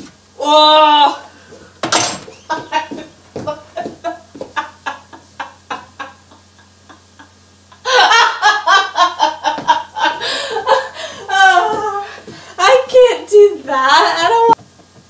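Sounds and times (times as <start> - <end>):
woman laughing: 2.4 - 14.6.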